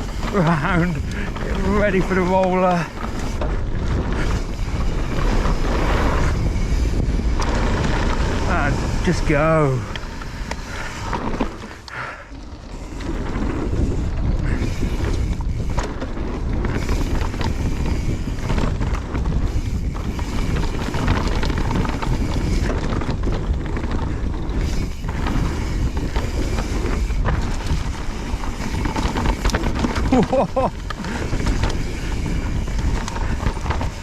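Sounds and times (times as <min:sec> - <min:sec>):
bike knocking and rattling: 0:00.0 - 0:34.0
tyres rolling on dirt: 0:00.0 - 0:34.0
wind rushing over microphone: 0:00.0 - 0:34.0.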